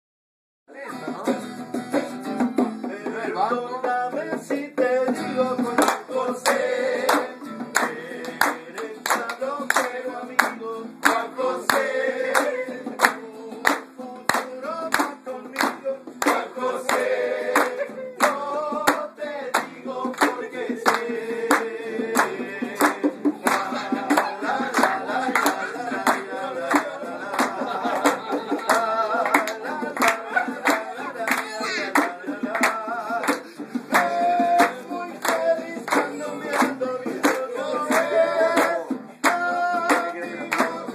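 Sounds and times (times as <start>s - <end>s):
acoustic guitar: 0.7s - 40.9s
bongos: 0.8s - 11.7s, 12.3s - 40.9s
hand clapping: 1.0s - 40.9s
group singing: 2.8s - 40.9s.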